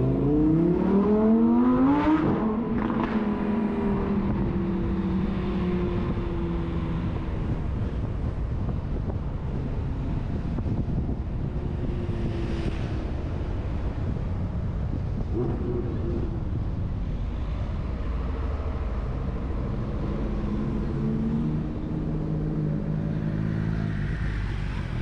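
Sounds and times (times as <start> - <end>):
engine hum: 0.0 - 25.0
road and engine rumble: 0.0 - 25.0
wind on microphone: 0.0 - 25.0.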